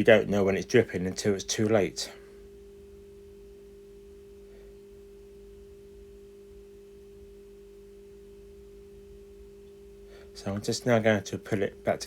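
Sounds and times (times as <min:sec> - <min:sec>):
low two-tone hum: 0:00.0 - 0:12.0.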